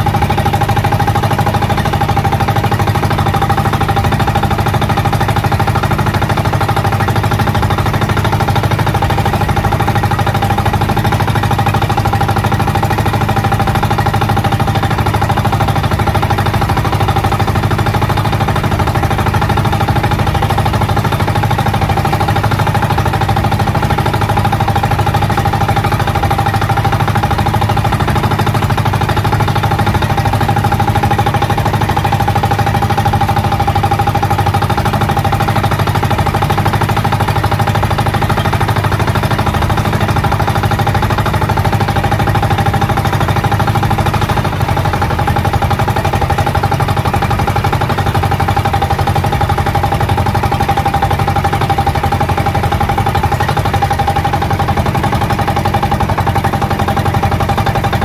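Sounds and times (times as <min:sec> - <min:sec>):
small boat engine droning: 0:00.0 - 0:58.0.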